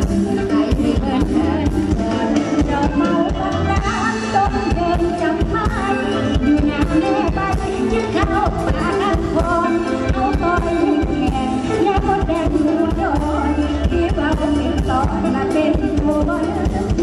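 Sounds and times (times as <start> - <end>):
amplified band music: 0.0 - 17.0
woman singing into microphone: 0.0 - 17.0.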